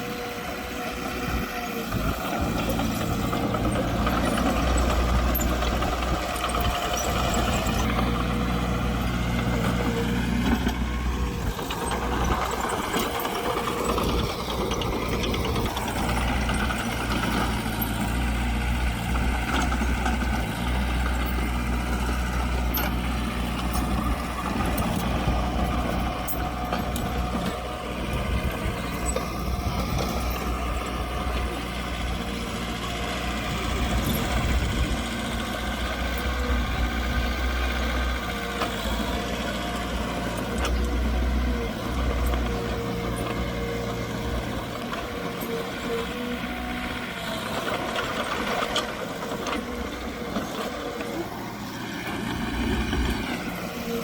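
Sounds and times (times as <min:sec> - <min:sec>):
diesel engines rumbling: 0:00.0 - 0:54.0
machinery clicks and clanks: 0:00.5 - 0:54.0.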